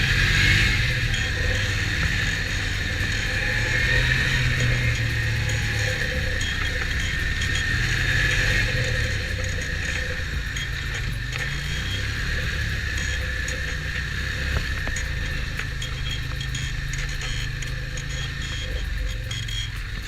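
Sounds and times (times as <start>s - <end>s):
snowmobile engine droning: 0.0s - 20.0s.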